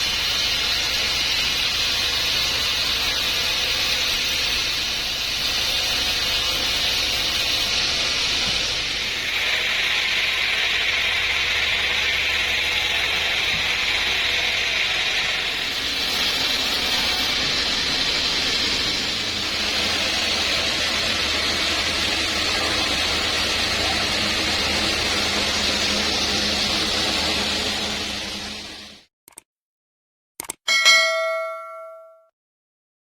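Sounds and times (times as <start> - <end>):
saw blade cutting log: 0.0 - 28.9.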